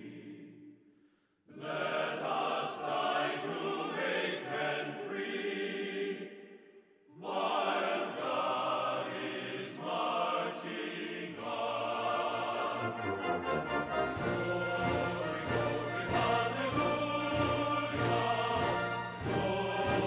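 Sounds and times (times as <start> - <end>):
choral singing: 0.0 - 0.8, 1.5 - 20.0.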